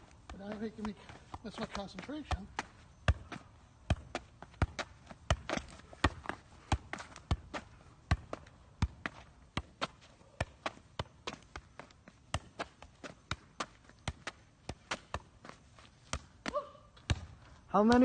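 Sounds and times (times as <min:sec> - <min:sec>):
sneakers tapping on asphalt: 0:00.0 - 0:17.2
shoe kicking ball: 0:00.0 - 0:18.0.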